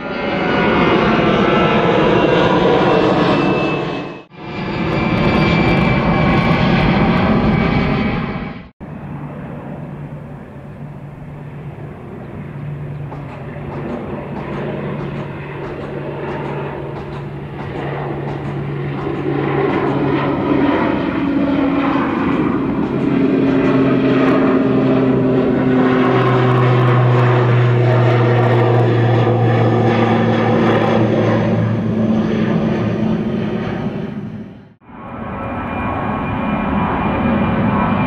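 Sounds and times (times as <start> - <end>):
turboprop plane droning overhead: 0.0 - 38.0.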